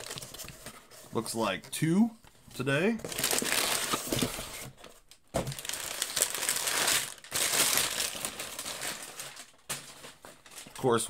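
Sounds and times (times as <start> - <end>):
packing paper crinkling: 0.0 - 1.0, 3.0 - 11.0.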